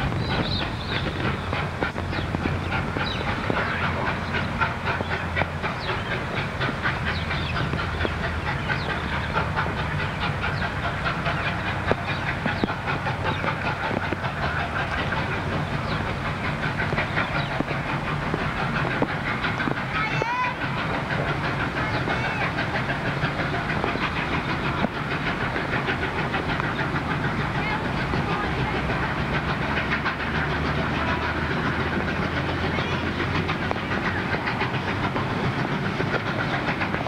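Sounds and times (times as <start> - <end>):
steam locomotive exhaust beating: 0.0 - 37.0.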